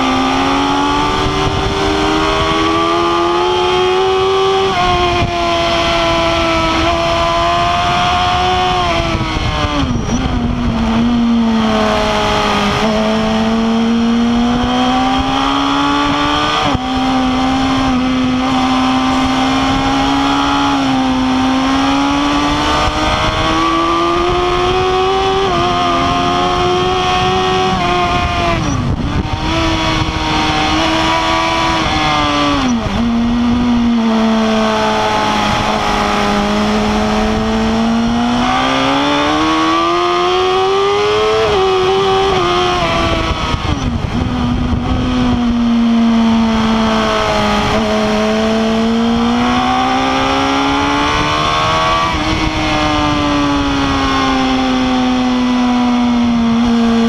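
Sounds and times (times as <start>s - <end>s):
motorcycle engine at high revs: 0.0s - 57.0s
rush of wind: 0.0s - 57.0s.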